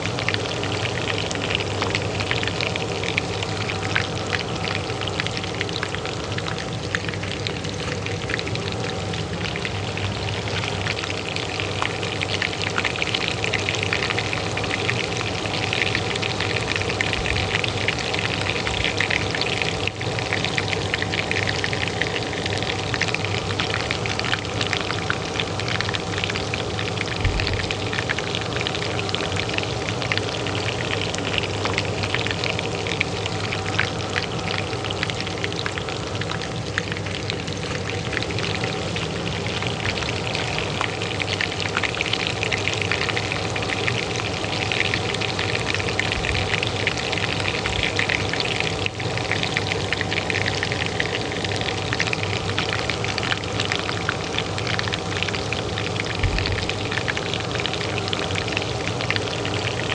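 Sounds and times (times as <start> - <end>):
oil sizzling in a pan: 0.0 - 59.9
range hood fan humming: 0.0 - 59.9.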